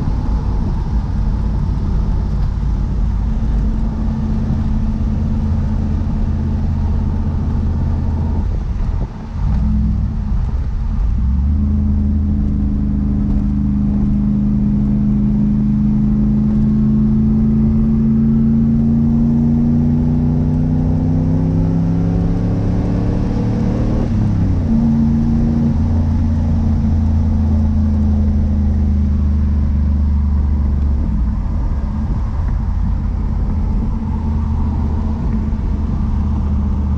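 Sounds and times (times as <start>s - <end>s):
car engine under load: 0.0s - 36.9s.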